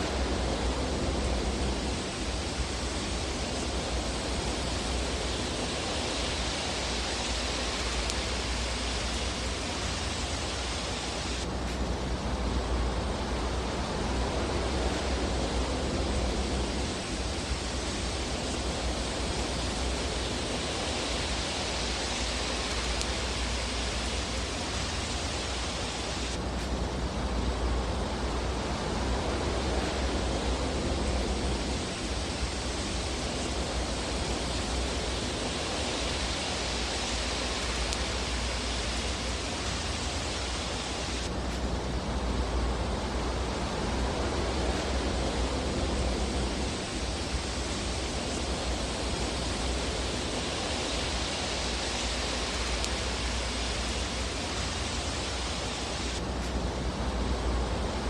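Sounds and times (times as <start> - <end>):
fire hissing with low rumble: 0.0 - 58.0.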